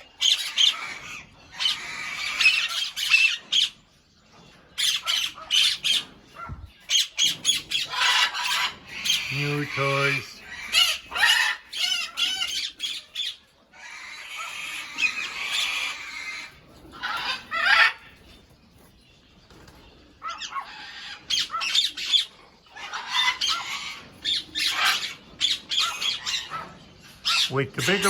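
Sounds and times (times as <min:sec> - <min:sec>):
birds squawking harshly: 0:00.0 - 0:28.0.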